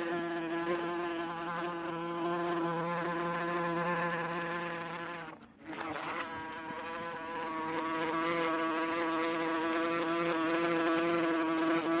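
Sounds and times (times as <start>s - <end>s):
wasp buzzing in flight: 0.0s - 5.4s, 6.0s - 12.0s.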